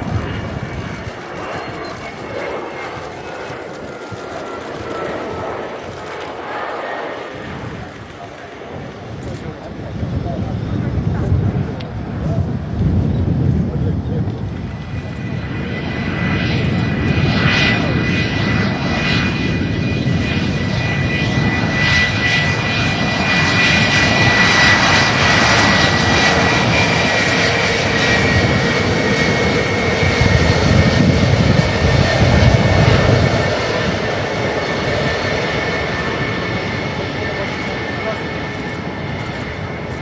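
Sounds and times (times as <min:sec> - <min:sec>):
jet engines rushing and whining: 0:00.0 - 0:40.0.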